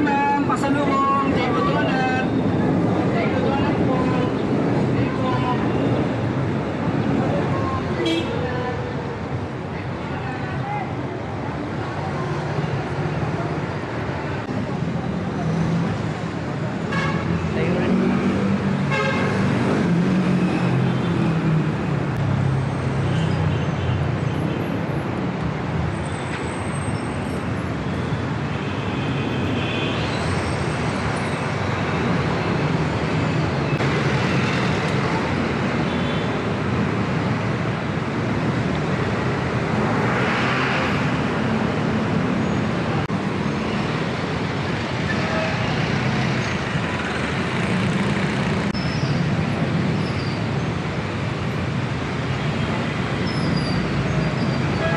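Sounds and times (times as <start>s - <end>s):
traffic engines passing: 0.0s - 54.9s.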